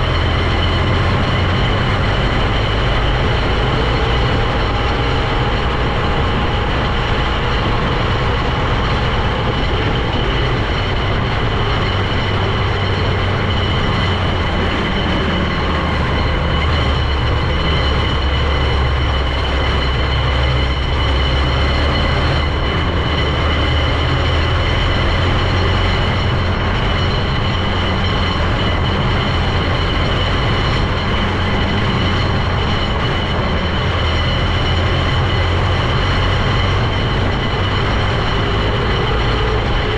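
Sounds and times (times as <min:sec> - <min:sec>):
high whine: 0:00.0 - 0:39.9
vehicle engine drone: 0:00.0 - 0:39.9.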